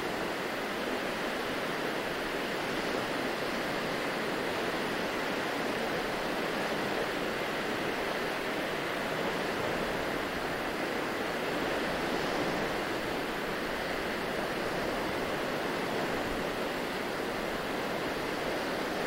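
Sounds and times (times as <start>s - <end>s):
small waves washing onto shore: 0.0s - 19.0s.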